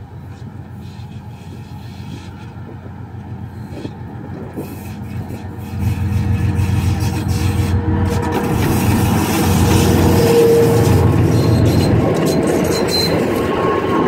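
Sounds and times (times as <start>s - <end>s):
diesel locomotive engines rumbling: 0.0s - 14.0s.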